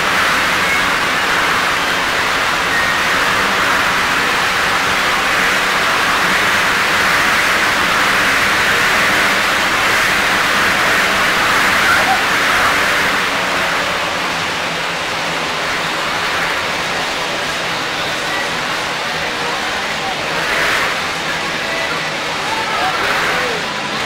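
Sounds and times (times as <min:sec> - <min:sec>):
motorcycle engines roaring: 0:00.0 - 0:24.0.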